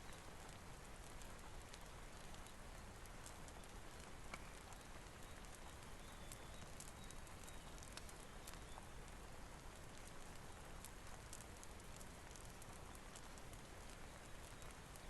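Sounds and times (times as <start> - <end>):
rain hiss: 0.0 - 15.0
wood fire crackling: 0.0 - 15.0.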